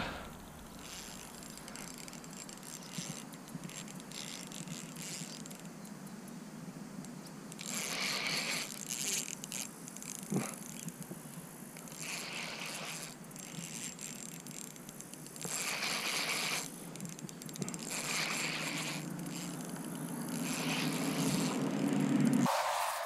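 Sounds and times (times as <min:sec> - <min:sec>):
fishing reel cranked whirring: 0:00.7 - 0:05.7, 0:07.6 - 0:11.0, 0:11.8 - 0:22.5.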